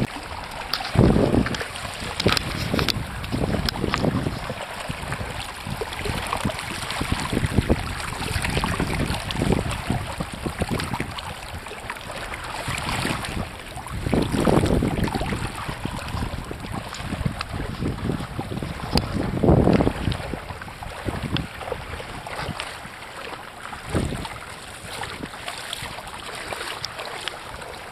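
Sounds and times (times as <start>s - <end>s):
water splashing along hull: 0.0s - 27.9s
wind buffeting microphone: 0.0s - 27.9s.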